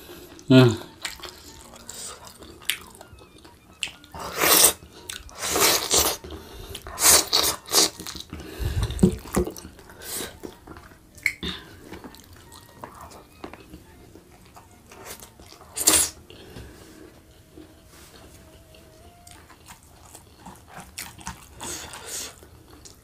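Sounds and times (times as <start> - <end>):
wet chewing and lip-smacking: 0.2 - 23.0.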